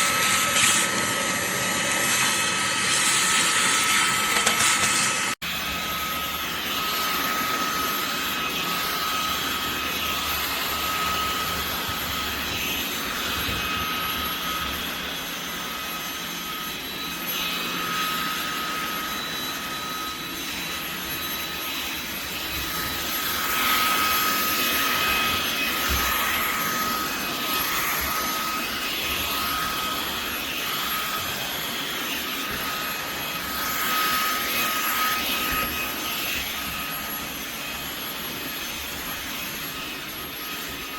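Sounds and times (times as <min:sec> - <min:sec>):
handheld vacuum motor whine: 0:00.0 - 0:40.9.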